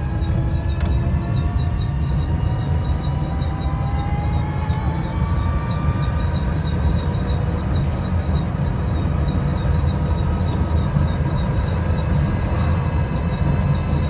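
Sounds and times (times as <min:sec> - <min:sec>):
electric trike rumble: 0:00.0 - 0:14.0
high motor whine: 0:00.0 - 0:14.0.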